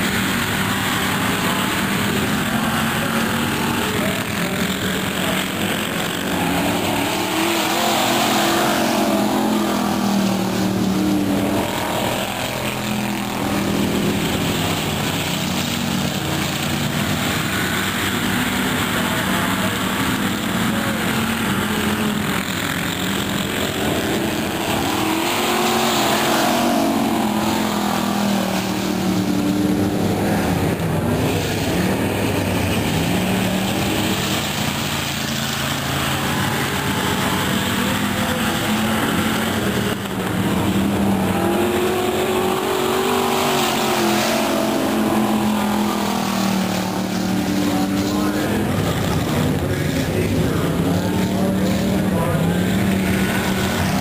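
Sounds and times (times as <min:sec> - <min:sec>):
race car engines racing: 0:00.0 - 0:54.0.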